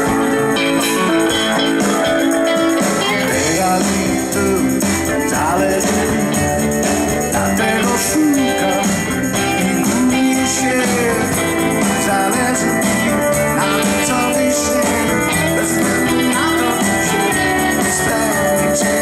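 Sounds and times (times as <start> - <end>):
electric guitar: 0.0 - 19.0
live band playing: 0.0 - 19.0.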